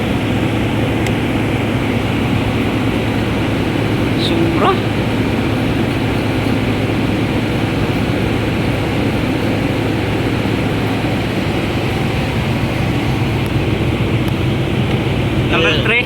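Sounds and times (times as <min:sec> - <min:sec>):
car engine running with misfire: 0:00.0 - 0:16.0.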